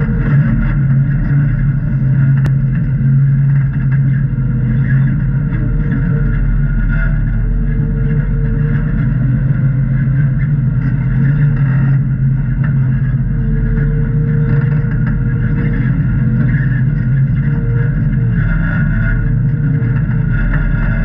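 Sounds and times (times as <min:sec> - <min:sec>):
car engine running: 0:00.0 - 0:21.0
faint wavering whine: 0:00.0 - 0:21.0.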